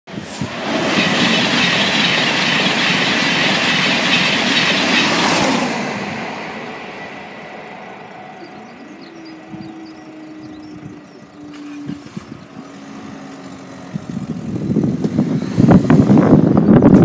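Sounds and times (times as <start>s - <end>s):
train wheels rushing on rails: 0.1s - 17.0s.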